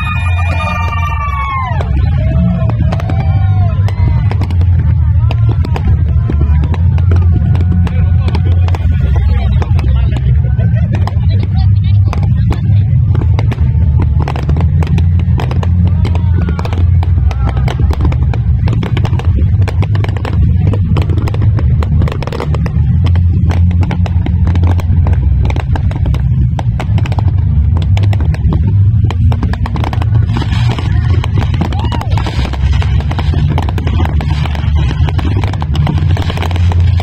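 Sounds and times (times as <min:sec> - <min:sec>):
fireworks bangs and crackles: 0:00.0 - 0:37.0
low rumble: 0:00.0 - 0:37.0.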